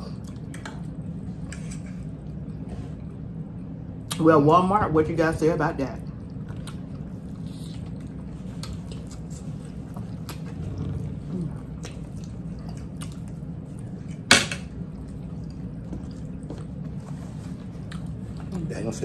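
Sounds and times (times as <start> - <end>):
quiet chewing: 0.0 - 4.2, 6.1 - 18.7.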